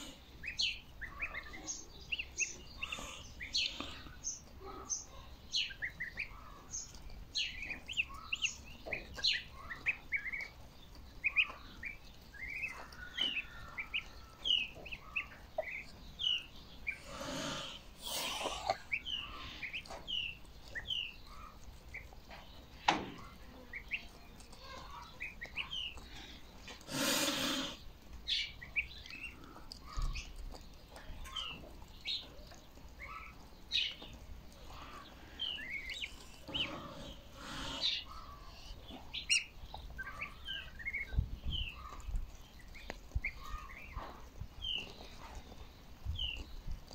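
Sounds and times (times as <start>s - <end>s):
goslings peeping: 0.0s - 46.7s.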